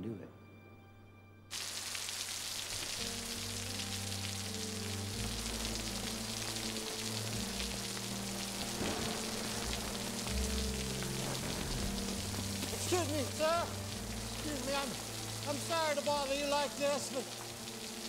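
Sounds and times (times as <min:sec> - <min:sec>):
low background music: 0:00.0 - 0:18.0
steady rain pouring: 0:01.5 - 0:18.0.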